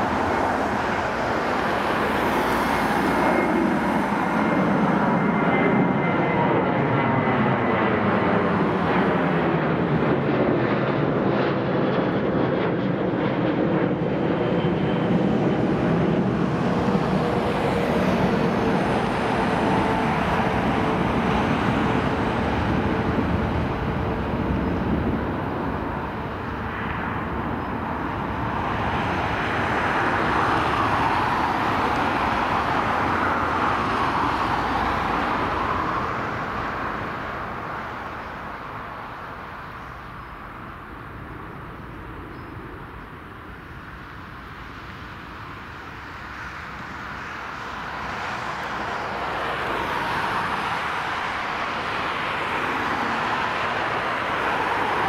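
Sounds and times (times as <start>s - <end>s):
jet engines whining on landing: 0.0s - 55.0s.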